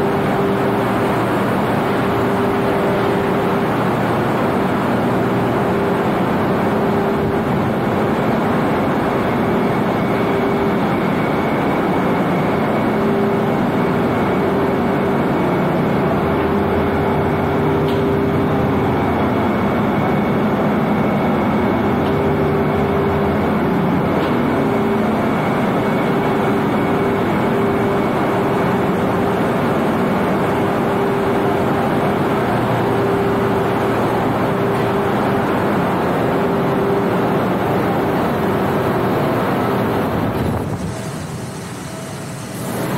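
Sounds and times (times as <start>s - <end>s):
constant humming tone: 0.0s - 42.9s
engine-room machinery din: 0.0s - 42.9s.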